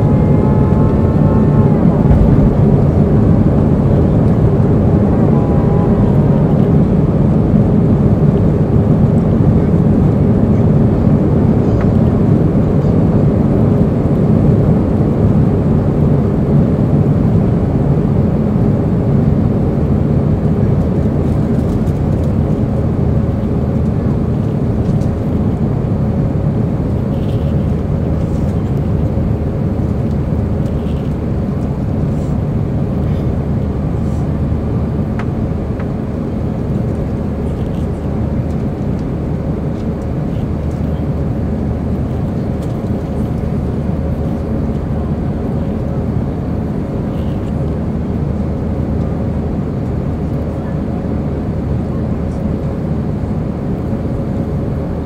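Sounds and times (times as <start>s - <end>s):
faint steady hum: 0.0s - 55.0s
jet engines rumbling in cabin: 0.0s - 55.0s.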